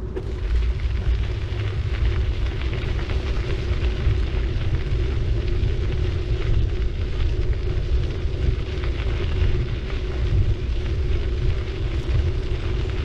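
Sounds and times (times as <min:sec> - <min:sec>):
bicycle tyres crackling on road: 0:00.0 - 0:13.0
wind rumbling on microphone: 0:00.0 - 0:13.0.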